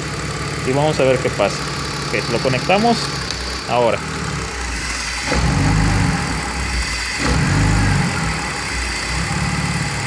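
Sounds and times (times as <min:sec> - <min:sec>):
car engine idling rough: 0:00.0 - 0:10.0.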